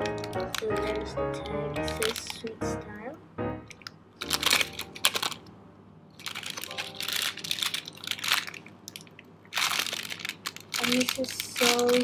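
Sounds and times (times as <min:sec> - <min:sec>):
plastic bag crinkling: 0:00.0 - 0:02.8, 0:03.7 - 0:12.0.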